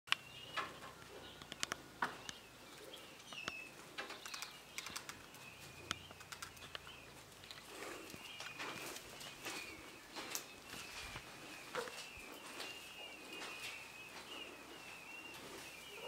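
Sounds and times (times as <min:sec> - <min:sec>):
clicks and rustles of birds moving: 0:00.1 - 0:16.0
peachicks peeping: 0:00.1 - 0:16.0.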